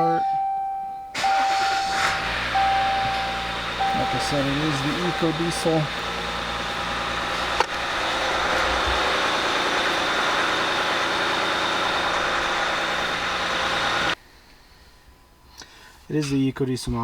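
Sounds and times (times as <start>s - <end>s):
diesel engine idling: 0.4s - 14.2s.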